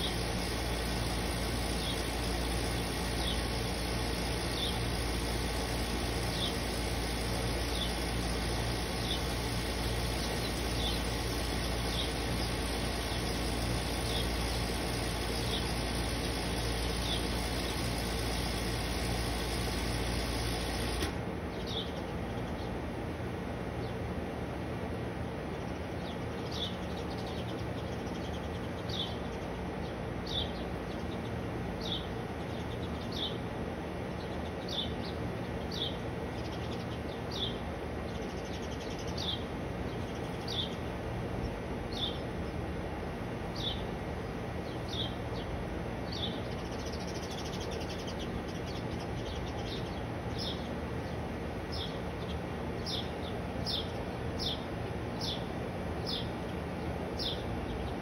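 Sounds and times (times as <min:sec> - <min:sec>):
outdoor background hiss: 0:00.0 - 0:58.0.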